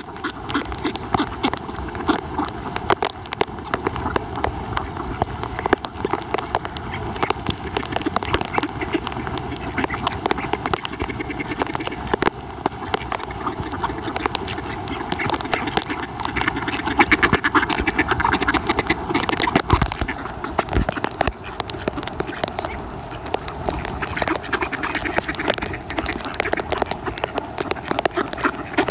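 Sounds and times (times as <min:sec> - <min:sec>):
ducks quacking: 0:00.0 - 0:28.9
rain hiss: 0:00.0 - 0:28.9.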